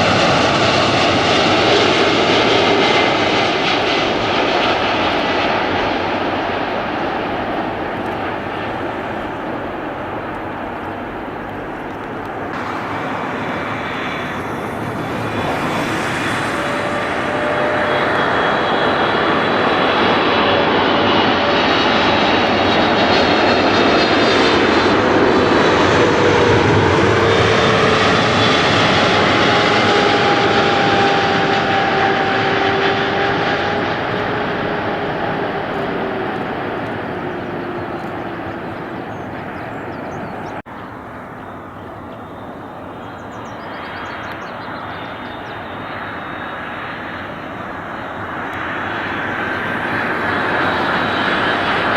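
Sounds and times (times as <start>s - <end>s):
airliner engines passing: 0.0s - 51.9s.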